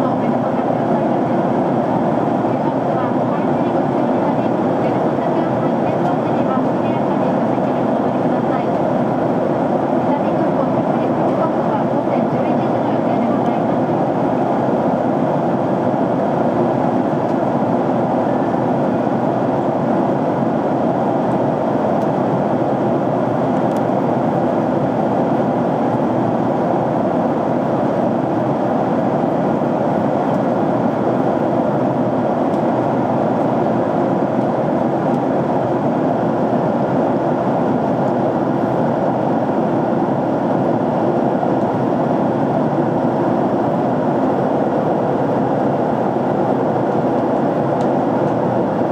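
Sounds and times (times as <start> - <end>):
jet airliner cabin noise: 0.0 - 48.9.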